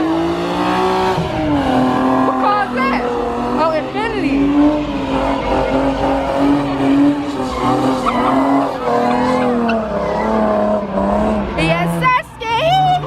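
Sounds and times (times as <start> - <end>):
car engine at high revs: 0.0 - 13.0
tires squealing: 0.0 - 13.0.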